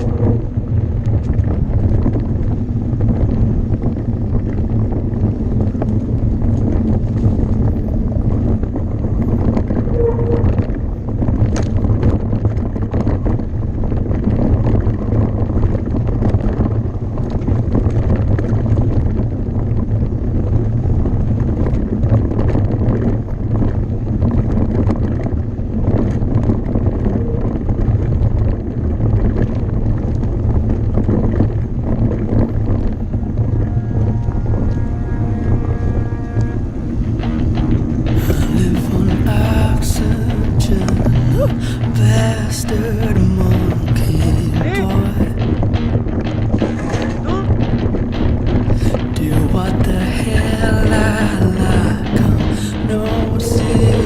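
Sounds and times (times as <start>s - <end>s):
mountain bike rattling: 0.0s - 42.3s, 43.2s - 49.1s
wind buffeting microphone: 0.0s - 54.0s.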